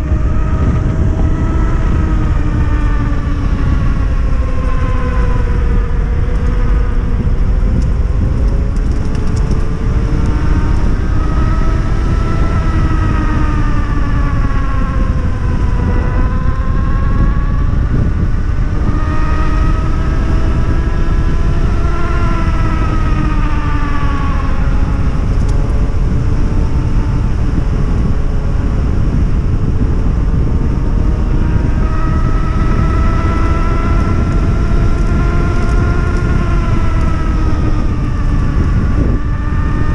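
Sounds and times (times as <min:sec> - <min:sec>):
electric motorbike motor whining: 0:00.0 - 0:39.9
steady low rush: 0:00.0 - 0:39.9.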